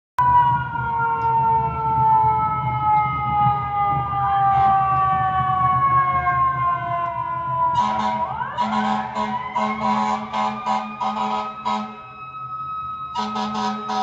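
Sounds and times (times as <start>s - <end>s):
fire truck siren wailing: 0.2s - 14.0s
second siren tone rising: 0.2s - 14.0s.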